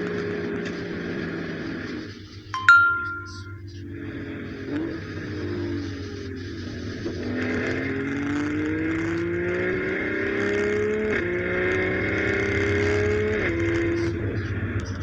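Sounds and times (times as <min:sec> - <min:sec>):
car engine accelerating: 0:00.0 - 0:02.5, 0:03.8 - 0:15.0.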